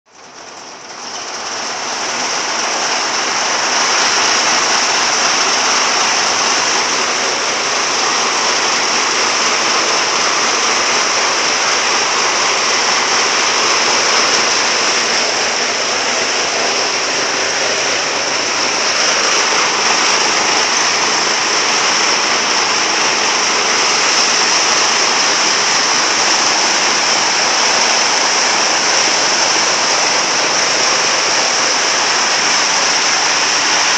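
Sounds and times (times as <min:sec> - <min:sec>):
threshing machine running: 0:00.2 - 0:33.9.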